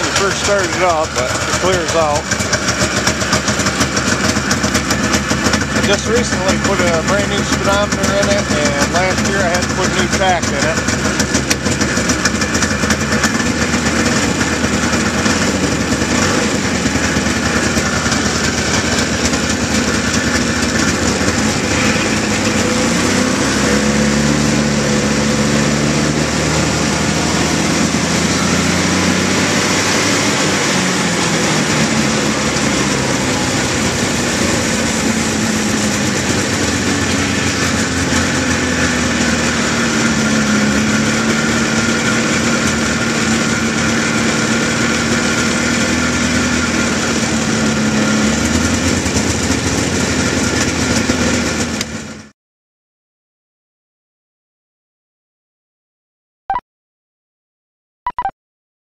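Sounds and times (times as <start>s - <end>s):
two-stroke snowmobile engine running: 0.0s - 52.3s.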